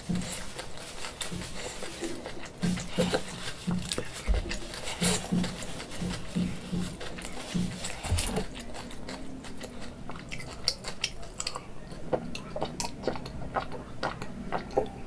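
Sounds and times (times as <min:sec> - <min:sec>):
chewing noodles: 0:00.0 - 0:15.0.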